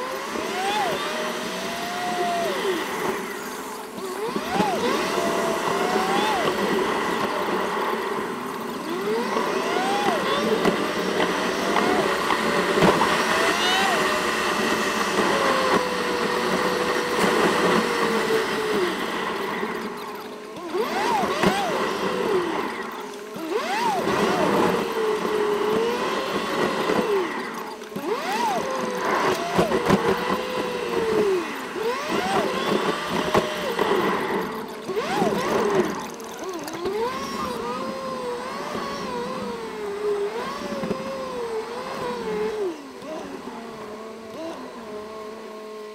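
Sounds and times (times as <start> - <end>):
sped-up engine high whine: 0.0 - 45.9.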